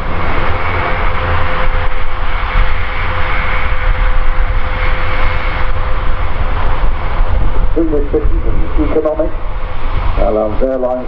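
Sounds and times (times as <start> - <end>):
jet engine noise with whine: 0.0 - 11.0
low rumble: 0.0 - 11.0.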